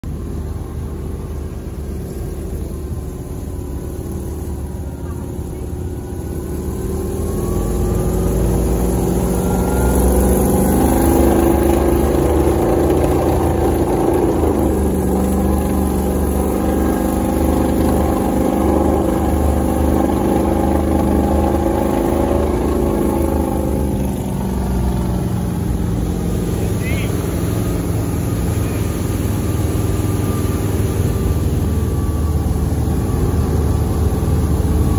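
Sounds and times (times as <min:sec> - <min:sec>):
engine revving under load: 0:00.0 - 0:34.9
tracks churning through water: 0:00.0 - 0:34.9.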